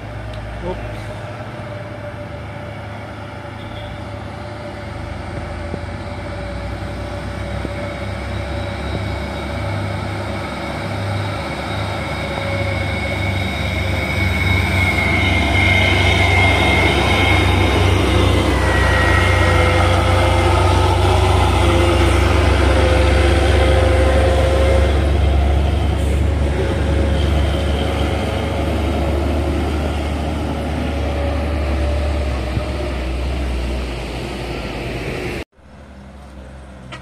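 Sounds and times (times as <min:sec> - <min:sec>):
diesel trucks driving past: 0:00.0 - 0:37.0
steady engine whine: 0:00.0 - 0:37.0.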